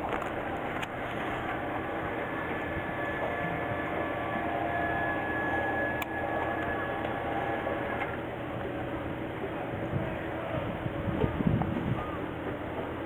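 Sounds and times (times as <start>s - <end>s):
faint whining tones: 0.0s - 13.0s
steady mechanical drone: 0.0s - 13.0s.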